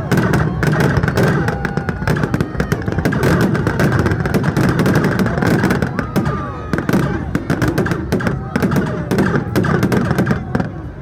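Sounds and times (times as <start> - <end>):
fireworks crackling and popping: 0.0 - 11.0
loud background din: 0.0 - 11.0.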